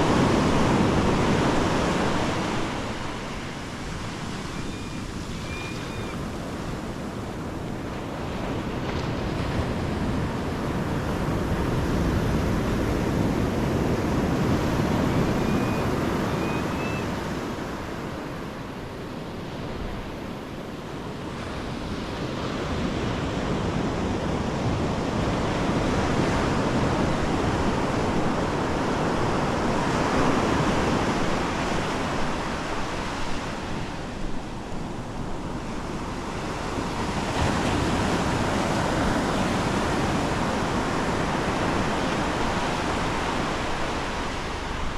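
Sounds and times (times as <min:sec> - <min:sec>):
ocean surf breaking: 0:00.0 - 0:19.8, 0:21.2 - 0:44.9.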